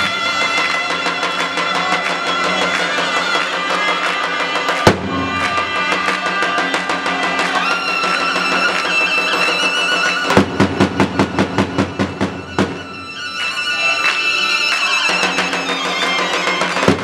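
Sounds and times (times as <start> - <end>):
high held melody line: 0.0 - 17.0
large drum beaten: 0.1 - 13.1, 15.2 - 17.0.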